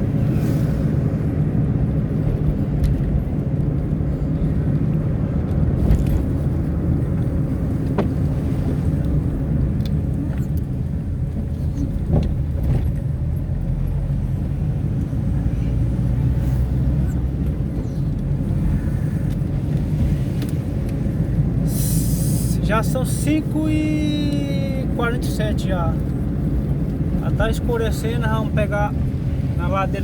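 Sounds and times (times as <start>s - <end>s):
vehicle engine and tyre rumble: 0.0s - 30.0s.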